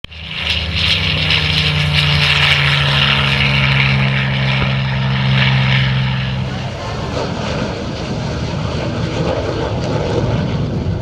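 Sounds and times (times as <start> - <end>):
jet engine drone with hiss: 0.1 - 11.0.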